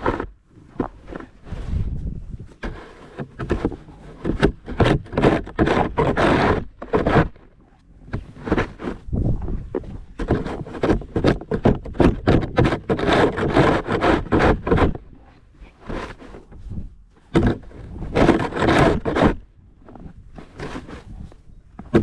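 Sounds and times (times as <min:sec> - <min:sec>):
snow shovel scraping snow: 0:00.0 - 0:09.3, 0:10.2 - 0:21.4.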